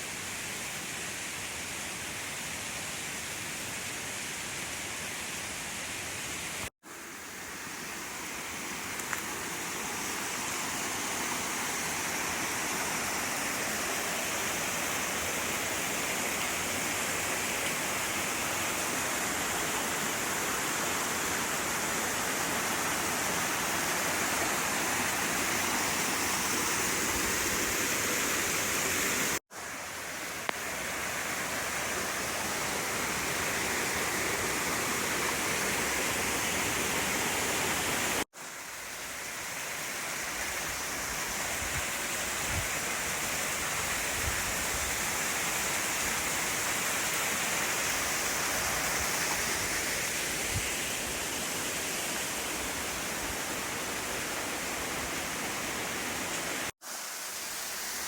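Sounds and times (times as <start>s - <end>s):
waterfall rushing: 6.6s - 38.3s, 39.0s - 58.0s.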